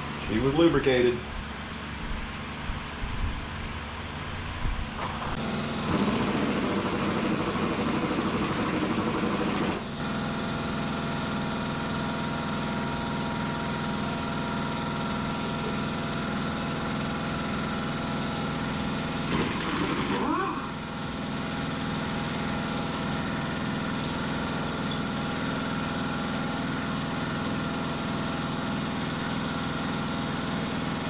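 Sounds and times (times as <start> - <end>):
motor running: 5.0 - 31.0.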